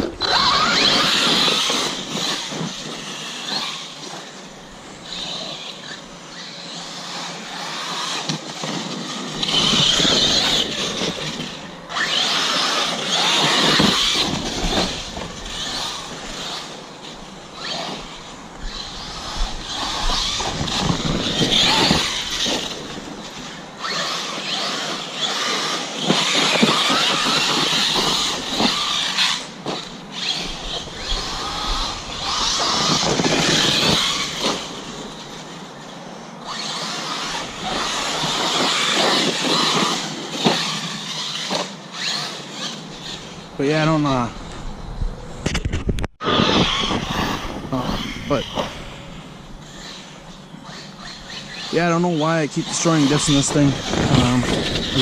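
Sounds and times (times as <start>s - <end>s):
rc truck motor whining: 0.0s - 45.5s, 46.2s - 55.0s.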